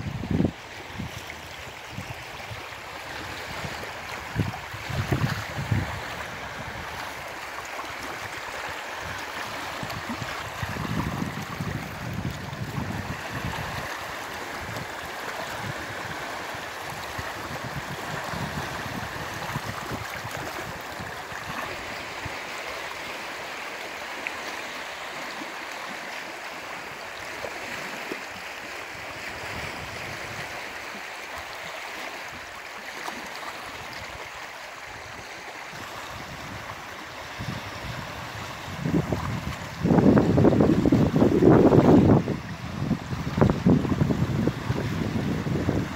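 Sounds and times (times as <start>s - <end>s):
wind rumble on microphone: 0.0s - 22.5s, 28.9s - 31.0s, 33.7s - 45.9s
sea waves on stony beach: 0.0s - 45.9s.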